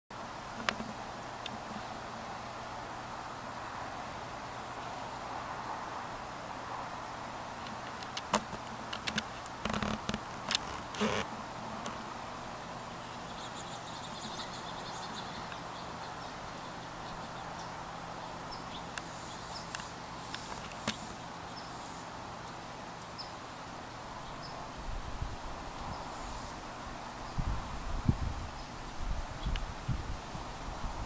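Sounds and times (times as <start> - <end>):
steady hiss: 0.1 - 31.0.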